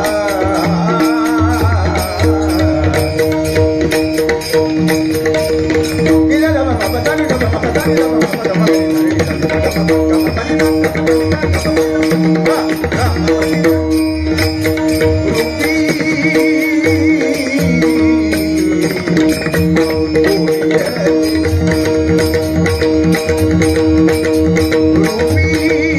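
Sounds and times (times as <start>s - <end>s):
hand drum beat: 0.0s - 25.9s.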